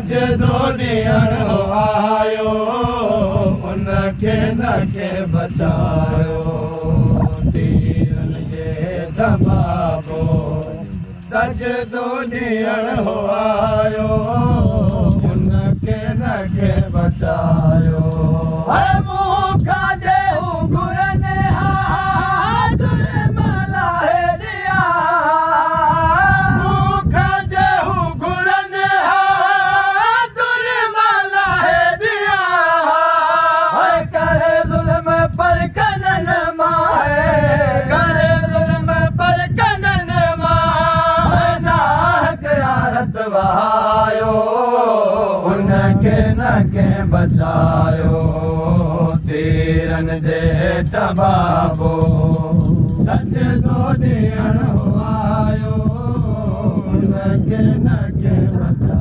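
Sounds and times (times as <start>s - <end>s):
man chanting a lament: 0.0s - 59.0s.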